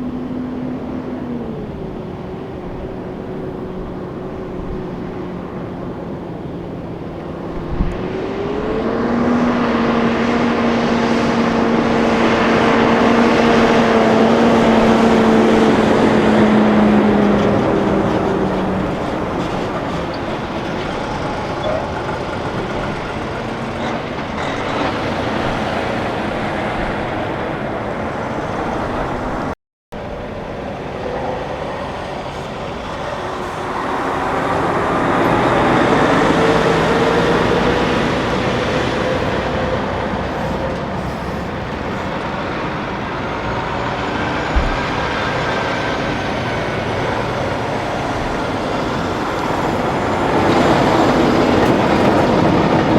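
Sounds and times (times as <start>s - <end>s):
diesel trucks passing: 0.0s - 52.9s.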